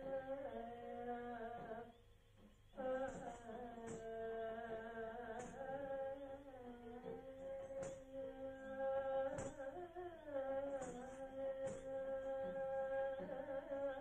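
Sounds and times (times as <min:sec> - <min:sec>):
person singing long notes: 0:00.0 - 0:01.9, 0:02.8 - 0:14.0.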